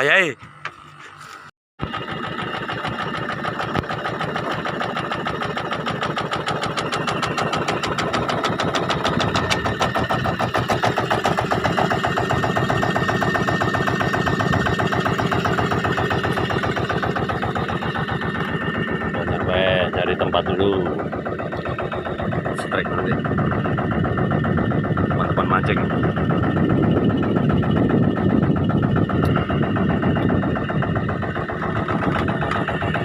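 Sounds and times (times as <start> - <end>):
small boat engine running: 0.0 - 33.0.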